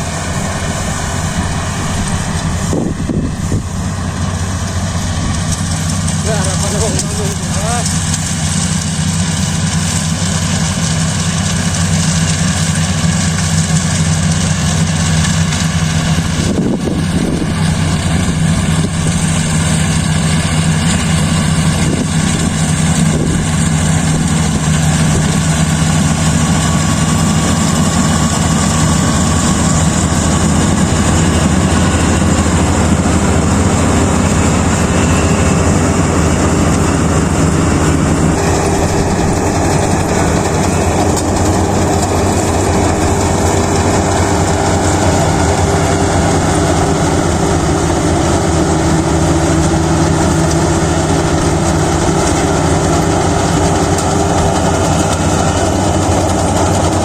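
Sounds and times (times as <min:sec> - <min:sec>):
combine harvester engine drone: 0:00.0 - 0:57.0
mechanical rush: 0:00.0 - 0:57.0.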